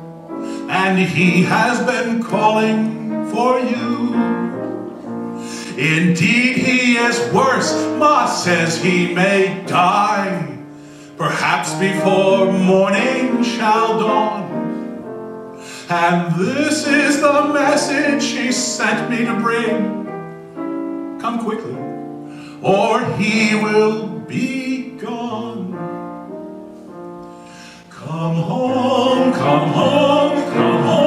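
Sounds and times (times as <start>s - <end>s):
piano accompaniment: 0.0s - 31.0s
man singing: 0.4s - 4.8s, 5.4s - 14.8s, 15.6s - 20.1s, 22.5s - 26.0s, 27.7s - 31.0s.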